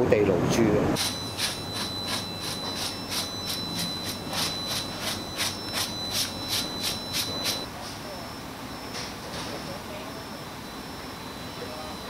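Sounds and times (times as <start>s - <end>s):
steady high whine: 0.8s - 12.0s.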